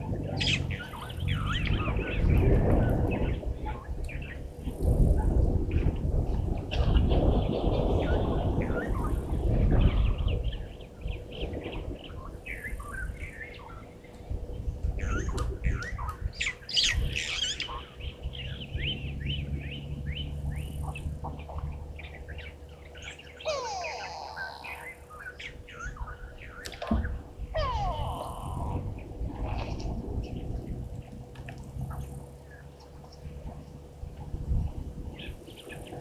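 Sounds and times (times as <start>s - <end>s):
birds chirping and trilling: 0.0s - 31.2s, 35.1s - 36.0s
low steady drone: 0.0s - 36.0s.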